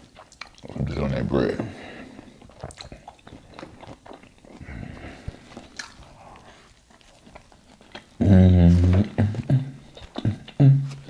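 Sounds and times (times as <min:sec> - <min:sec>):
person biting and chewing food: 0:00.0 - 0:01.0, 0:01.6 - 0:11.0.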